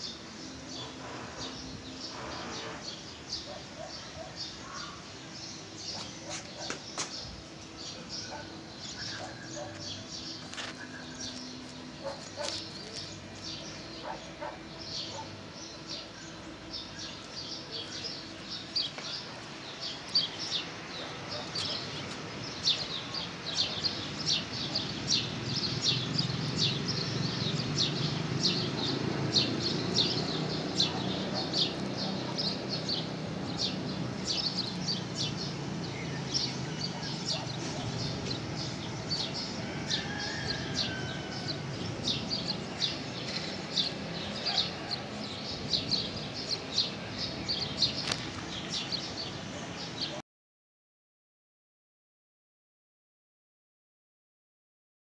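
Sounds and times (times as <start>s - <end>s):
birds chirping: 0.0s - 50.2s.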